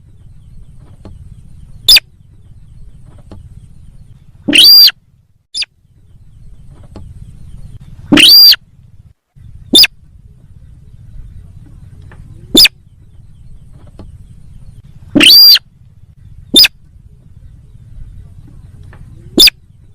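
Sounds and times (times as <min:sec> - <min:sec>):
steady low hum: 0:00.0 - 0:19.9
bird calls rising and falling: 0:00.1 - 0:08.7, 0:09.4 - 0:10.1, 0:11.6 - 0:19.9.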